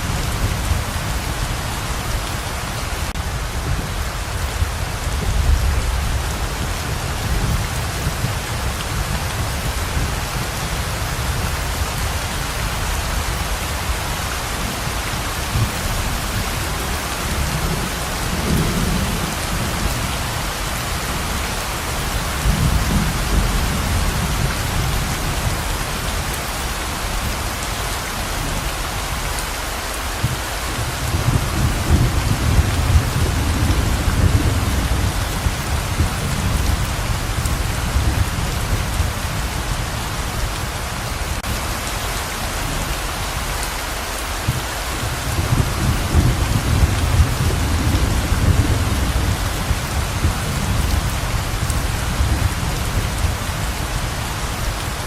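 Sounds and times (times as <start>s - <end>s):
thunder rumbling: 0.0s - 27.6s, 30.2s - 41.9s, 44.4s - 55.0s
heavy rain pouring: 0.0s - 55.0s.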